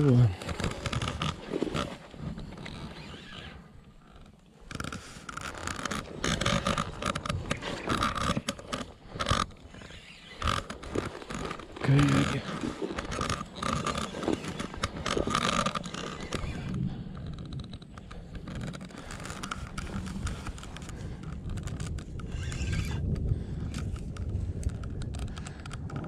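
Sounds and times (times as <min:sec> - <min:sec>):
clothing and gear rustling and knocking: 0:00.1 - 0:26.0.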